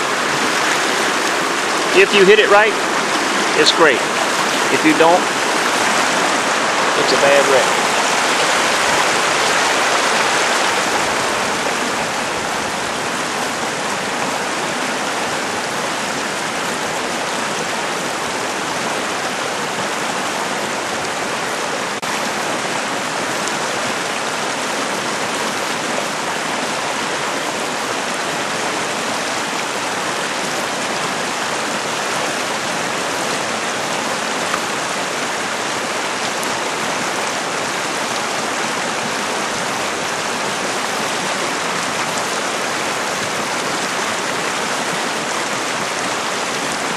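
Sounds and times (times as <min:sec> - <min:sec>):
river rushing over boulders: 0:00.0 - 0:46.9.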